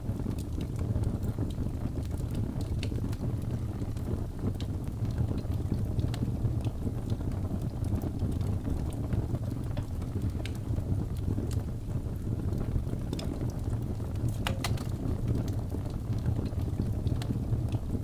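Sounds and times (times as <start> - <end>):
wood fire burning: 0.0 - 18.0.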